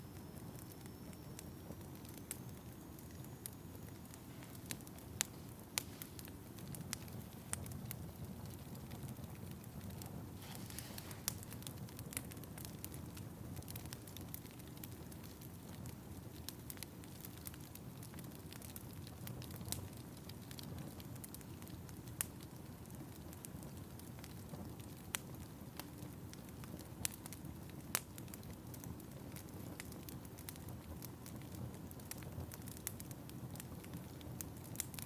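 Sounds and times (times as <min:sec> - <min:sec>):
fire crackling: 0:00.0 - 0:35.0
sharp pops of fire: 0:00.4 - 0:35.0.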